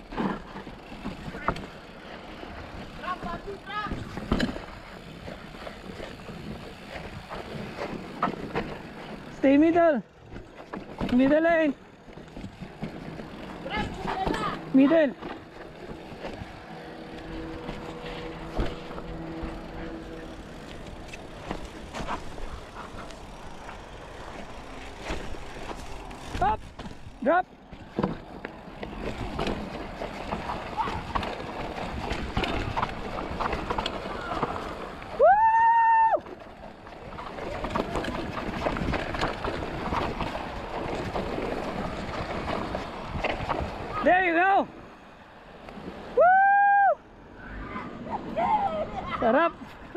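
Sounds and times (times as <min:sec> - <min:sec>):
bike knocks and rattles on rocks: 0:00.0 - 0:35.1, 0:36.2 - 0:44.2
tyre rush on dirt trail: 0:00.0 - 0:49.9.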